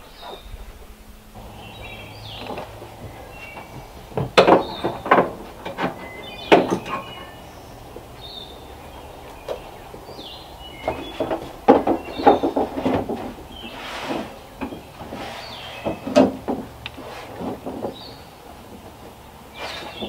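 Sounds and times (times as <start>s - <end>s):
metal clanks and knocks: 1.4s - 19.2s.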